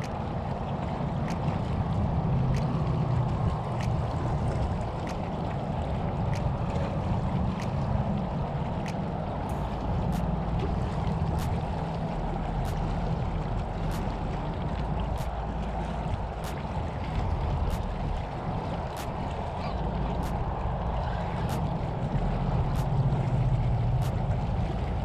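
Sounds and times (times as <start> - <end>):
waves lapping on rocky shore: 0.0 - 25.0
wind on microphone: 0.0 - 25.0.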